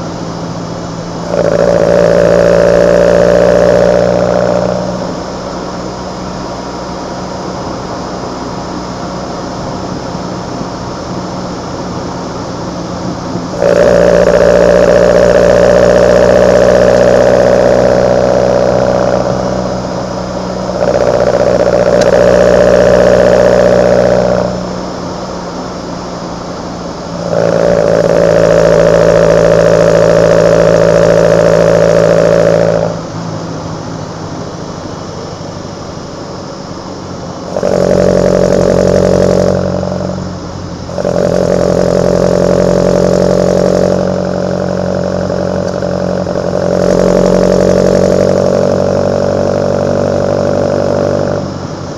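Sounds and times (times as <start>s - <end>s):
car engine intake noise: 0.0s - 51.9s.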